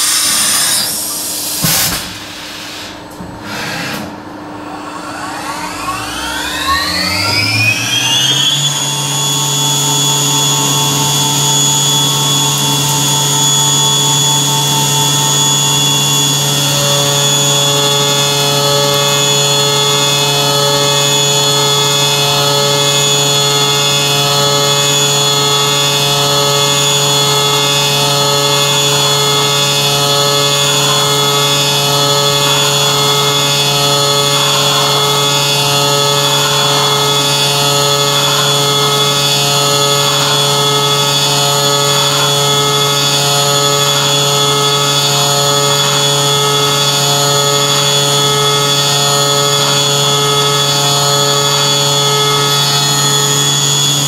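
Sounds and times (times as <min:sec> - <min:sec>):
milling machine whine: 0:00.0 - 0:54.0.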